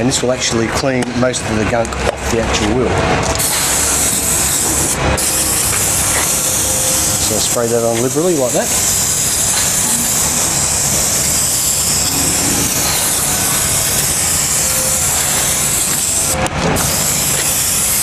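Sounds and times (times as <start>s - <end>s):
aerosol spray hissing: 3.4s - 18.0s.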